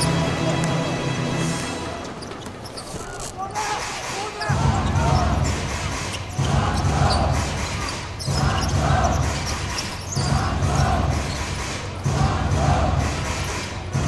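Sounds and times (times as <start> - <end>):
crowd noise: 0.0 - 14.0.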